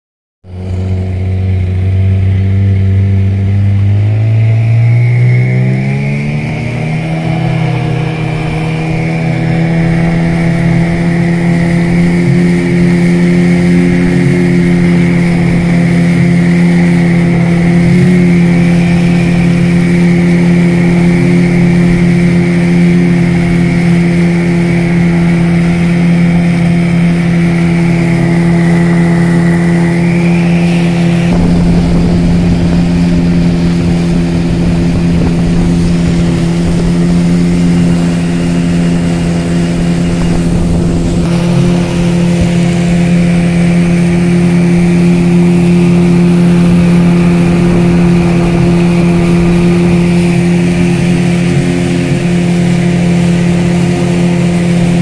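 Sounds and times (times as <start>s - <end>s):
outboard motor revving: 0.4s - 55.0s
water rushing along hull: 0.5s - 55.0s.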